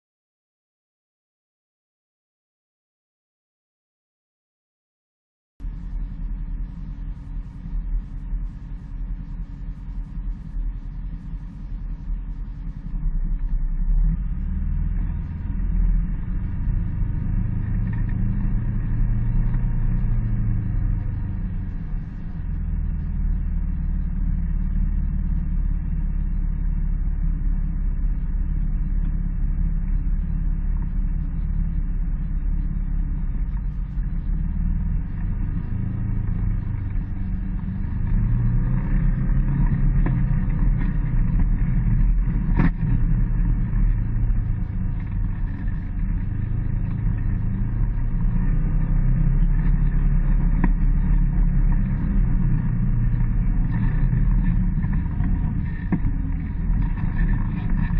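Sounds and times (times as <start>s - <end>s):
vehicle engine rumbling: 5.6s - 57.9s.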